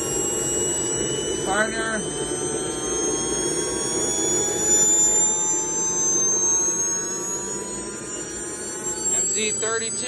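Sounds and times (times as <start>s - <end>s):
turbojet whine rising: 0.0s - 10.0s.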